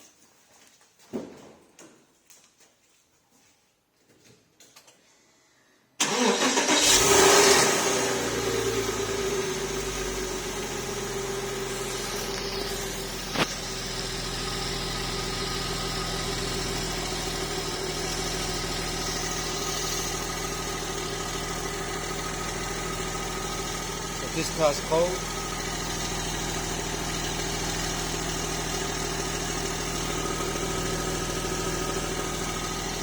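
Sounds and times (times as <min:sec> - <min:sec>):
car engine starting and idling: 0:06.0 - 0:33.0.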